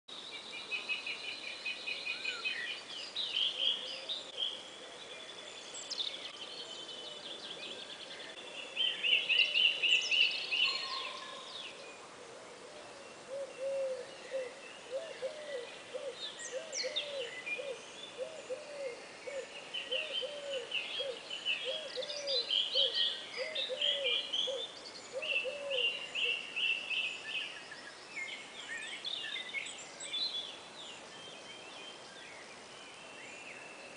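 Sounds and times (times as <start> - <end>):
birds chirping and trilling: 0.2 - 33.9.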